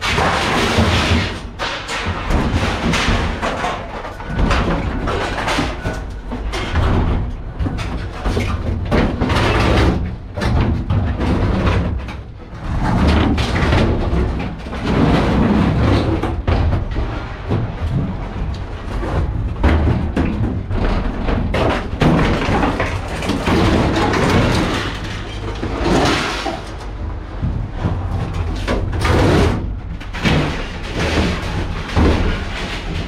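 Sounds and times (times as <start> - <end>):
scrap thumping and banging: 0.0 - 33.0.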